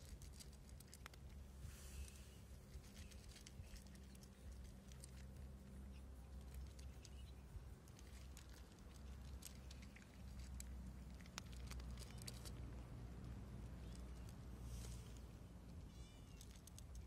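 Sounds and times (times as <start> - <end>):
cats crunching dry kibble: 0.0 - 17.0.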